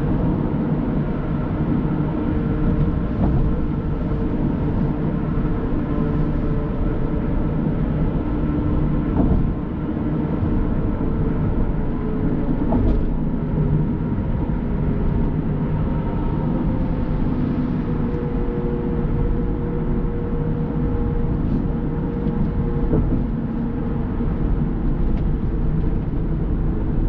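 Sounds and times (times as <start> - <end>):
car cruising tyre and engine noise: 0.0 - 27.0.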